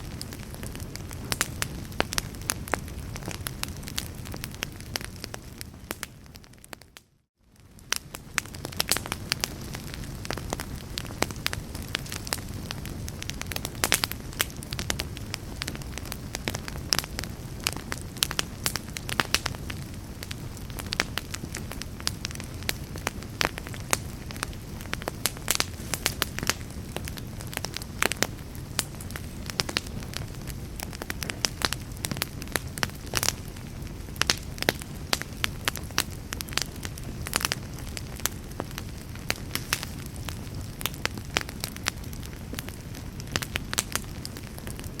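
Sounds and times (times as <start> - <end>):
logs crackling and popping: 0.0 - 45.0
low rumble of flames: 0.0 - 45.0.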